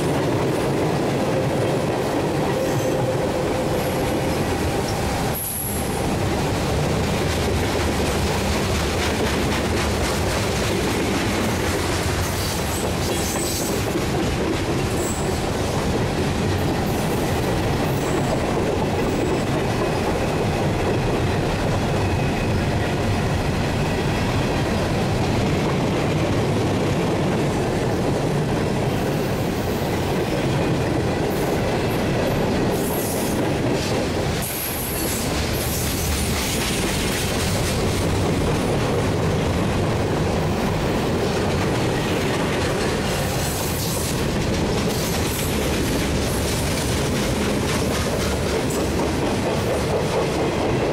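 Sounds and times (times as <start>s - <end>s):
train wheels rumbling over rail: 0.0s - 50.9s.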